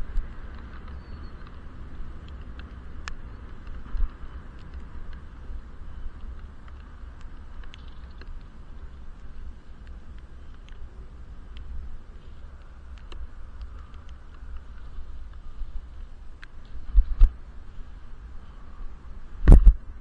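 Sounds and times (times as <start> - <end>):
light ticks: 0.0 - 19.8
bicycle road rumble: 0.0 - 20.0
muffled wind: 0.0 - 20.0.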